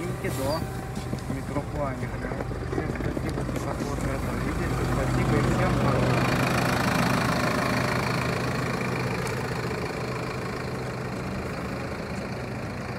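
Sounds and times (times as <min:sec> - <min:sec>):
bus engine idling: 0:00.0 - 0:12.9.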